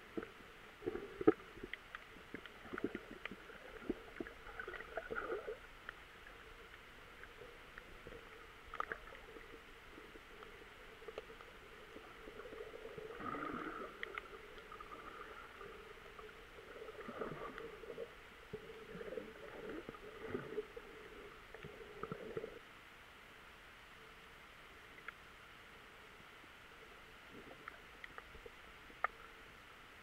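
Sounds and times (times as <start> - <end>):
underwater sloshing and gurgling: 0.0 - 30.0.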